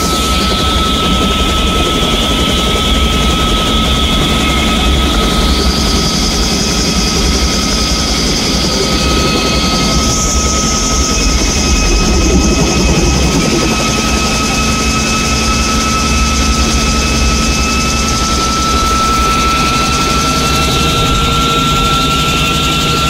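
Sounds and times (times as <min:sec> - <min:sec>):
helicopter engine and rotor drone: 0:00.0 - 0:23.0
thin steady whine: 0:00.0 - 0:23.0.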